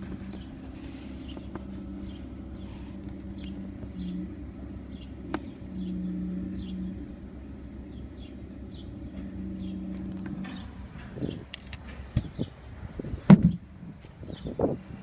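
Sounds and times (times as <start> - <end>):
outboard motor running: 0.0 - 12.5.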